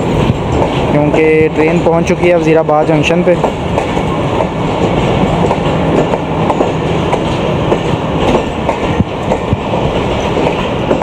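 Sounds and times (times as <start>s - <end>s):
train rumble: 0.0s - 11.0s
train wheels clicking over rail joints: 0.0s - 11.0s.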